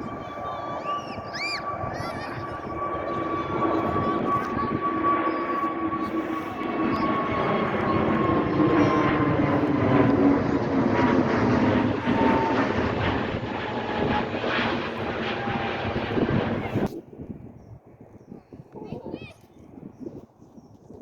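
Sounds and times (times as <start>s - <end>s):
airliner engines whining: 0.0s - 16.9s.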